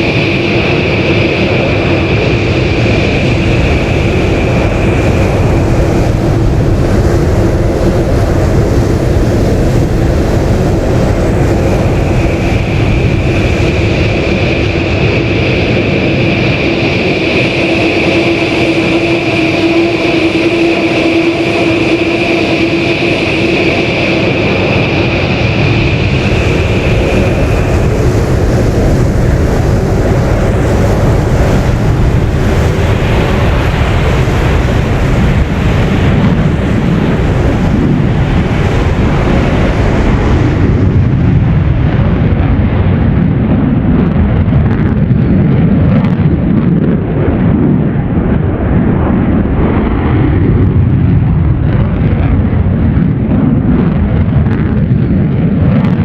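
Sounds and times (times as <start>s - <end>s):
jet engine roar: 0.0s - 56.0s.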